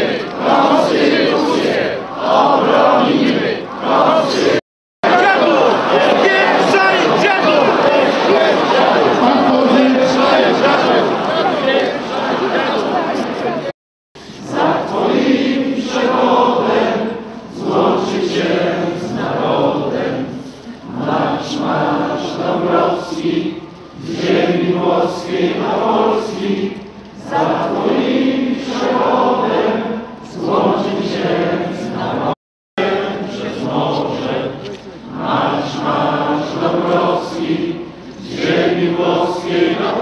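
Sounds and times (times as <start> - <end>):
crowd chanting in unison: 0.0 - 40.0.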